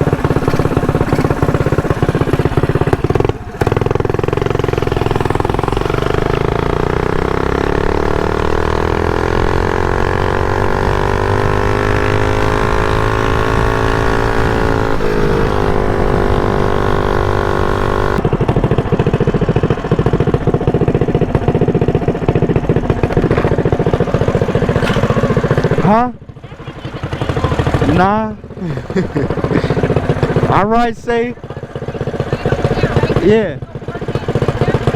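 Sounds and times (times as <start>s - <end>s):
mini bike engine revving: 0.0s - 34.9s.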